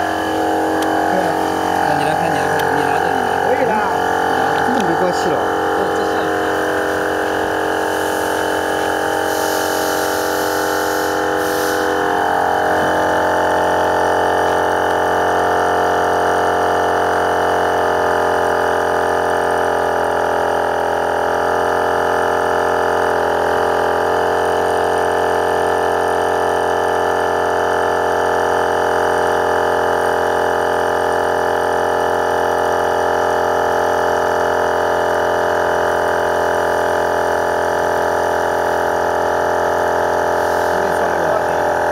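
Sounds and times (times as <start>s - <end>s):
electric air compressor running: 0.0s - 41.9s.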